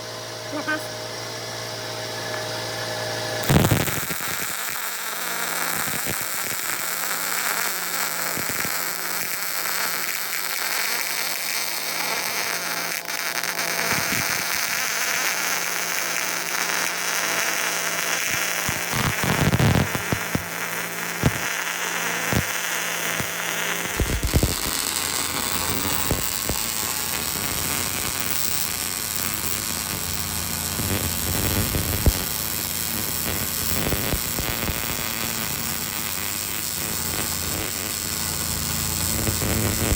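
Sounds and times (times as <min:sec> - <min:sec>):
sharp welding pops: 0:03.4 - 0:39.9
welding arc crackling and hissing: 0:03.4 - 0:39.9.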